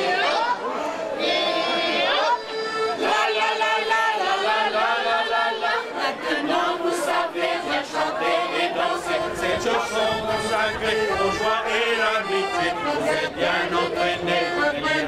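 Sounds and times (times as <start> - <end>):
accordion: 0.0 - 15.0
group singing folk song: 0.0 - 15.0.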